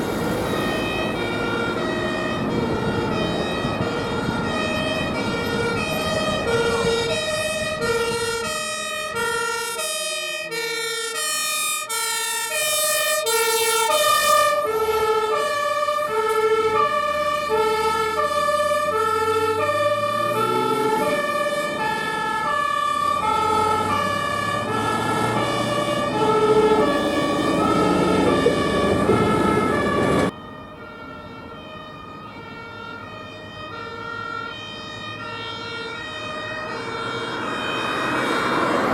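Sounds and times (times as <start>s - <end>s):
fire engine two-tone siren: 0.0s - 38.9s
truck engine accelerating: 0.0s - 38.9s.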